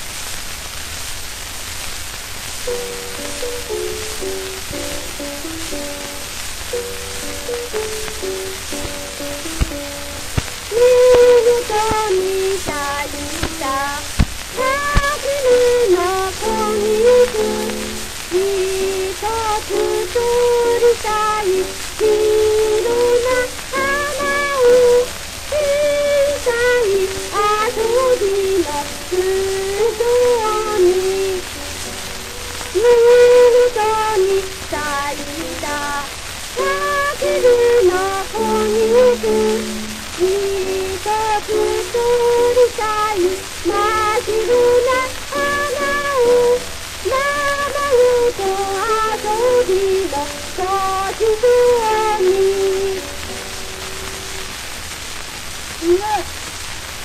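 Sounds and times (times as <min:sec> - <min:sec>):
record surface hiss and crackle: 0:00.0 - 0:57.0
woman singing: 0:06.8 - 0:31.9, 0:32.7 - 0:53.3, 0:55.8 - 0:56.4.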